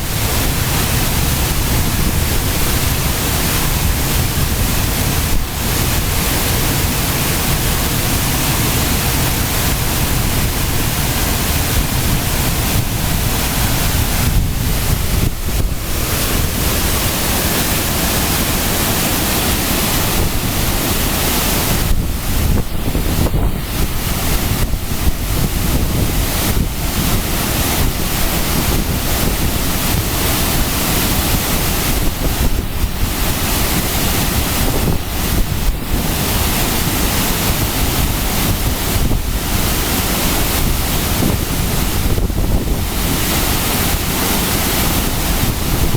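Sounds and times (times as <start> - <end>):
waterfall roaring: 0.0 - 45.9
wind buffeting microphone: 0.0 - 45.9.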